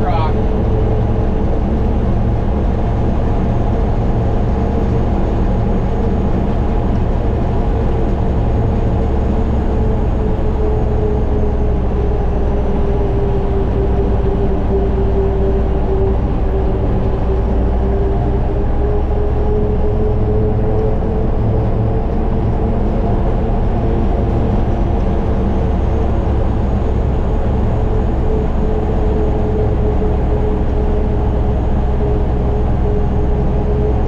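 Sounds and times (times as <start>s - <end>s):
truck engine running under load: 0.0s - 34.0s.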